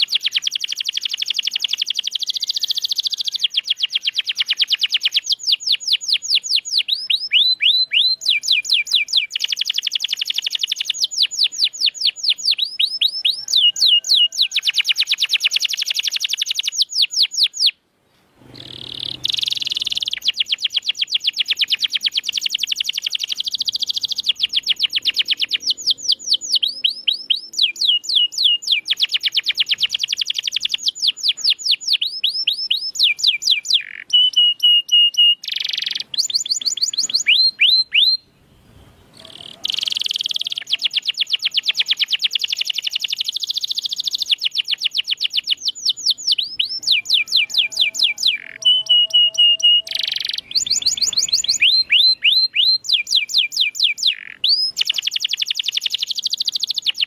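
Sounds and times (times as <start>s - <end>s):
canary singing trills: 0.0s - 17.8s, 18.4s - 57.0s.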